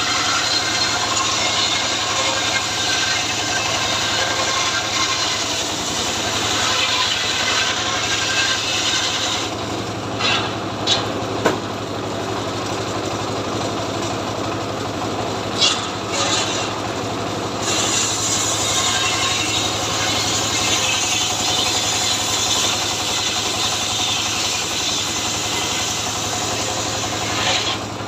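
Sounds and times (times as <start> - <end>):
chainsaw engine running: 0.0 - 28.0.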